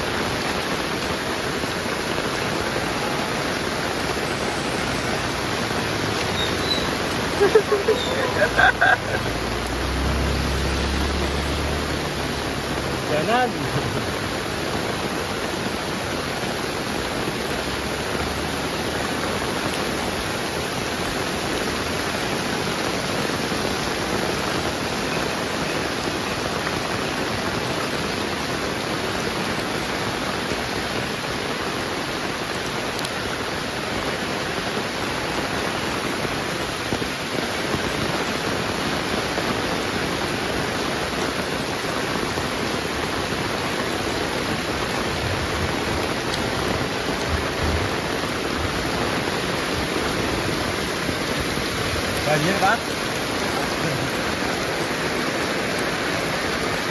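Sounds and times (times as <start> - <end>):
heavy rain pattering: 0.0 - 56.9.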